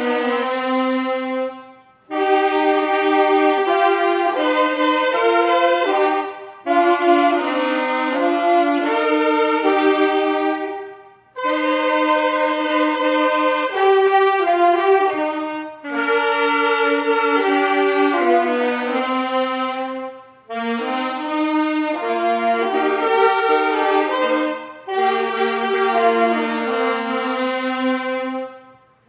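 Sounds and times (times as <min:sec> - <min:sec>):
brass playing sustained chords: 0:00.0 - 0:29.0.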